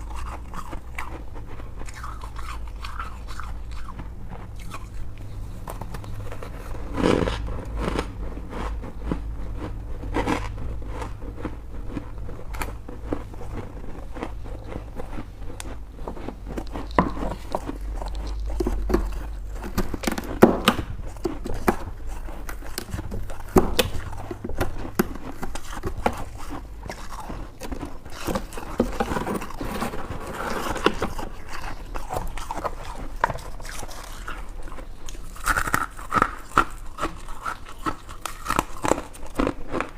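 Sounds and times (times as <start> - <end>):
low steady hum: 0.0 - 39.9
person crunching ice: 1.8 - 4.0, 5.8 - 39.9.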